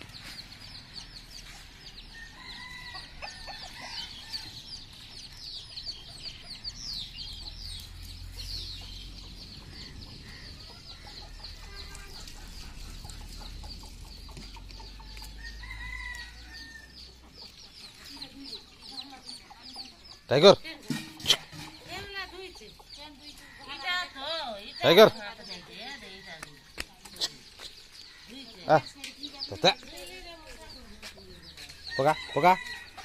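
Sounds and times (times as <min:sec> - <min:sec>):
chickens peeping: 0:00.0 - 0:33.0.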